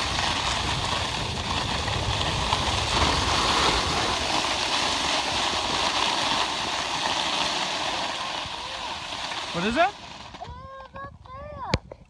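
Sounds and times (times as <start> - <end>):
wind buffeting microphone: 0.0 - 7.0, 8.0 - 12.0
skis sliding over snow: 0.0 - 10.7.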